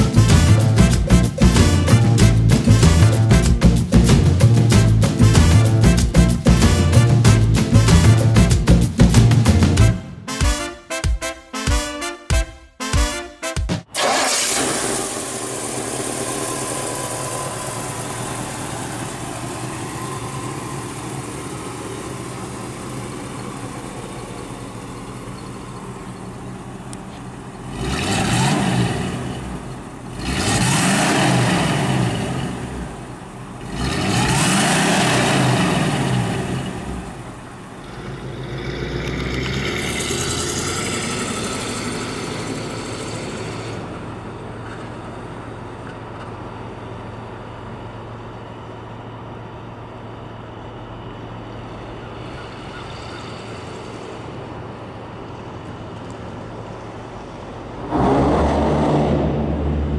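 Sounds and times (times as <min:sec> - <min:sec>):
car engine idling and revving: 0:00.0 - 0:10.2, 0:13.9 - 0:59.9.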